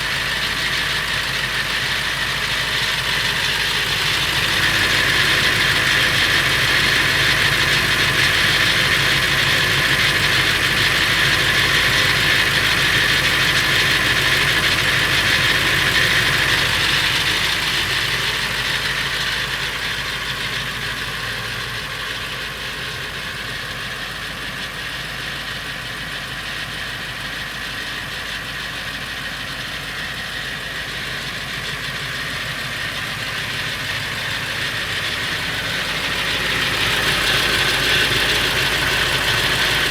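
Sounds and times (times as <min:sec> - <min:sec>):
diesel engine idling with rattle: 0:00.0 - 0:39.9.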